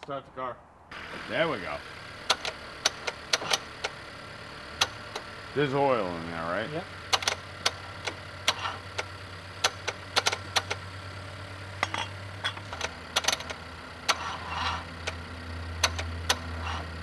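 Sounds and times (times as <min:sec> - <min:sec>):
low engine hum: 0:00.9 - 0:17.0.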